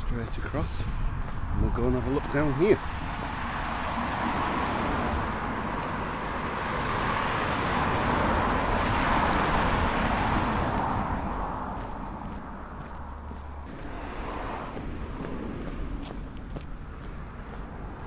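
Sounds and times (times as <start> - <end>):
vehicle passing on road: 0.0 - 18.0.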